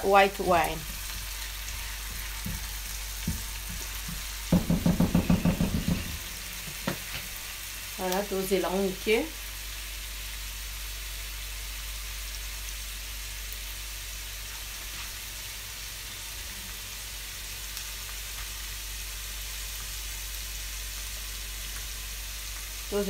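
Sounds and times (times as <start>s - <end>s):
onions sizzling in a frying pan: 0.0s - 23.0s.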